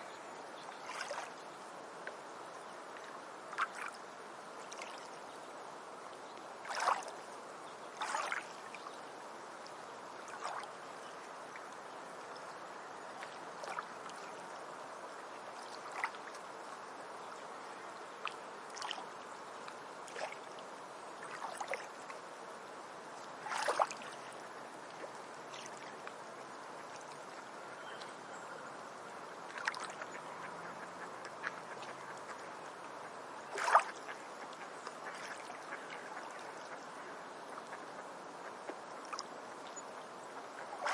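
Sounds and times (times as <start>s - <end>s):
small waves lapping and splashing: 0.0s - 40.9s
steady wash of water: 0.6s - 27.7s, 28.7s - 40.9s.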